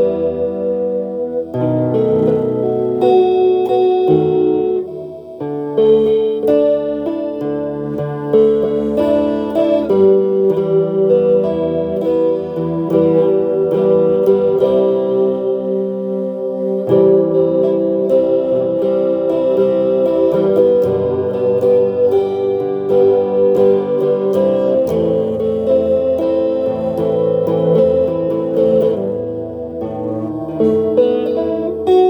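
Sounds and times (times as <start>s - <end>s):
instrumental music with sustained notes: 0.0s - 32.0s.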